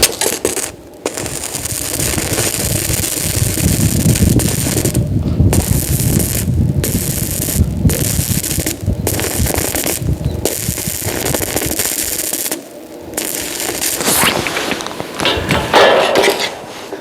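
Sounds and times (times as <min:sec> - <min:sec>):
arc welding crackle: 0:00.0 - 0:16.6.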